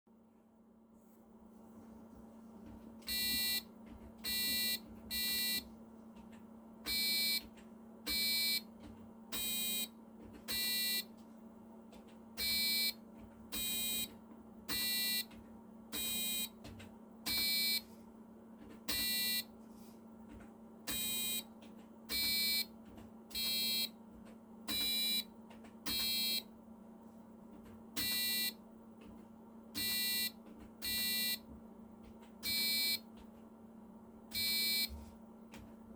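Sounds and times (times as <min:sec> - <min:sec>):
low electrical hum: 0:00.1 - 0:35.9.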